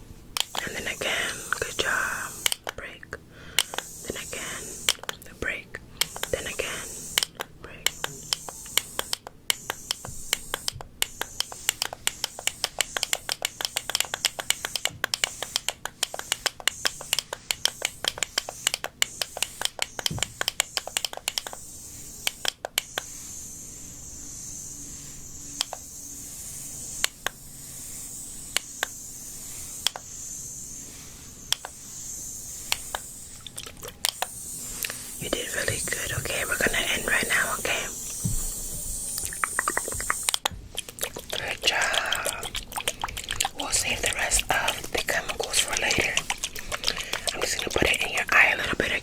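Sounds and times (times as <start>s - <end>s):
steady high hiss: 0.0s - 49.0s
close clicking and tapping: 0.4s - 5.3s, 6.0s - 23.2s, 25.5s - 25.9s, 26.8s - 27.4s, 28.4s - 30.2s, 31.5s - 49.0s.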